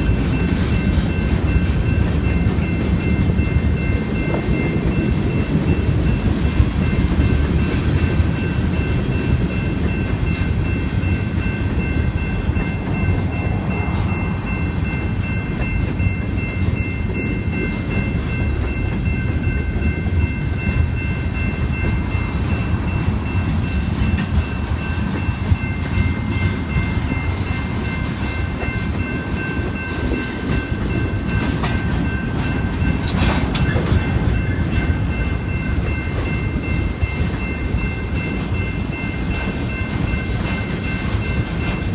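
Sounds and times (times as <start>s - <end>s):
freight train cars rolling: 0.0s - 41.9s.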